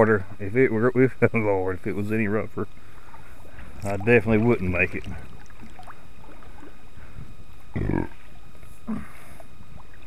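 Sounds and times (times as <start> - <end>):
water and wind noise: 0.0 - 10.0.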